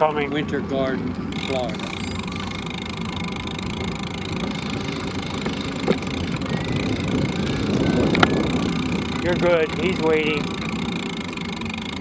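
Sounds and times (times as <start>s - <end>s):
bicycle tyre rumble on pavement: 0.0s - 12.0s
wind buffeting microphone: 0.0s - 12.0s.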